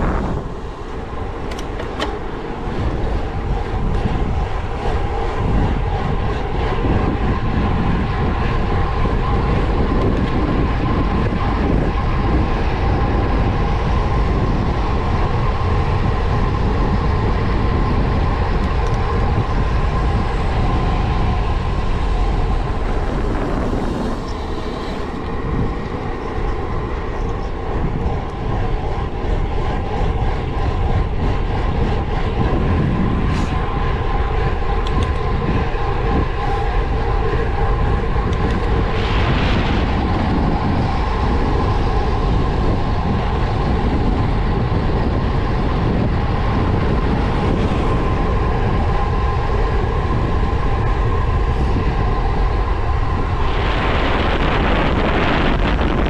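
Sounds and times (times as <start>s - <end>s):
bike tyre rumble: 0.0s - 56.0s
wind rushing: 0.0s - 56.0s.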